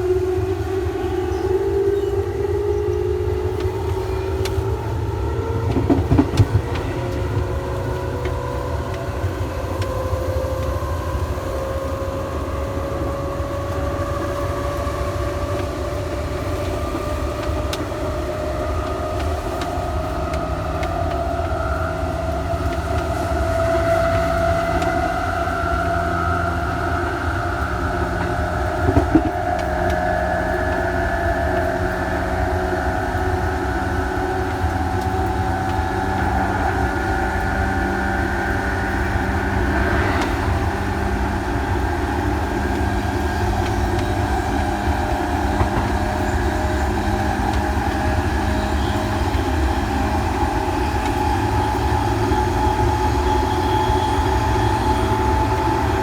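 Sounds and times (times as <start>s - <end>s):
train running gear rumble: 0.0s - 56.0s
train traction motor whine: 0.0s - 56.0s.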